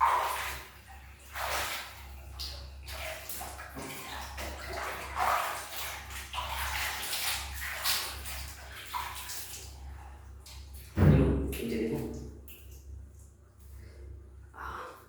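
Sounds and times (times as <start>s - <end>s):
water splashing and running: 0.0s - 12.9s.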